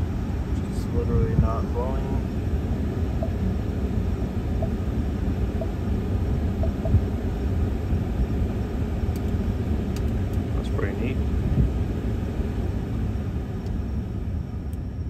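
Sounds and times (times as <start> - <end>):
climate fans on high: 0.0 - 15.0
vehicle cab low rumble: 0.0 - 15.0.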